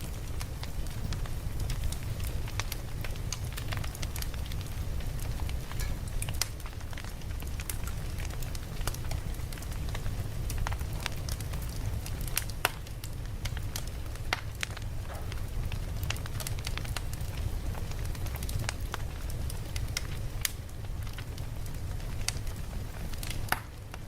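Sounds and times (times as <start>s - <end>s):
campfire crackling: 0.0s - 24.0s
fire pops and snaps: 0.0s - 24.0s
low fire rumble: 0.0s - 24.0s.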